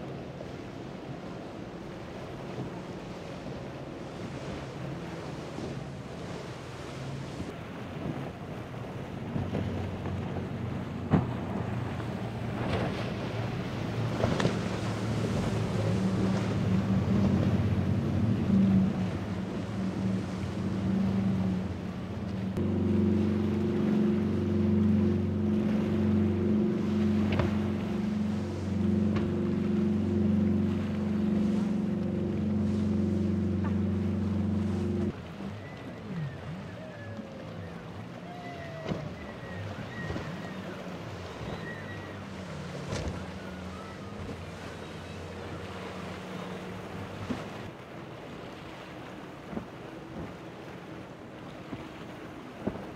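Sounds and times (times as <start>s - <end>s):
motorboat engine drone: 0.0s - 52.9s
rush of water: 0.0s - 52.9s.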